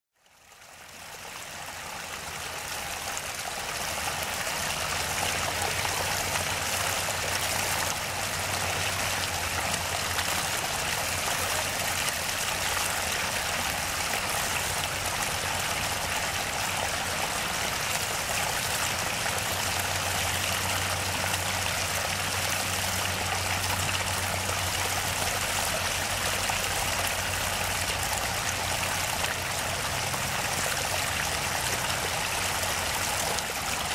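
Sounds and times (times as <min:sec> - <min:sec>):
stream trickling over rocks: 0:00.2 - 0:33.9.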